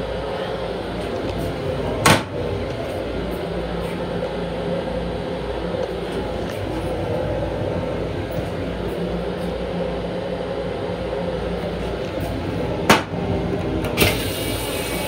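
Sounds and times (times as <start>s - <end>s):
train car running hum: 0.0s - 15.0s.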